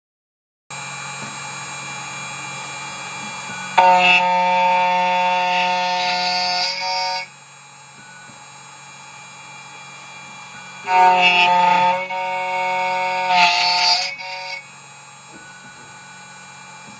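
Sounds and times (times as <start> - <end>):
key cutting machine whining: 1.4 - 16.9.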